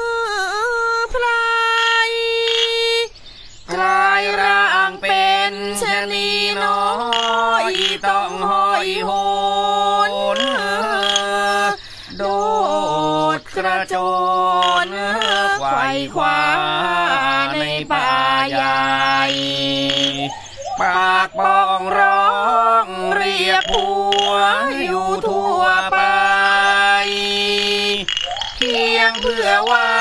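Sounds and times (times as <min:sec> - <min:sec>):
person singing: 0:00.0 - 0:30.0.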